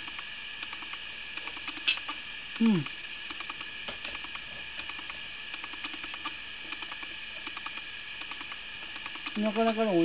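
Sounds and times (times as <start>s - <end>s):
eating clicks and ticks: 0.0s - 9.9s.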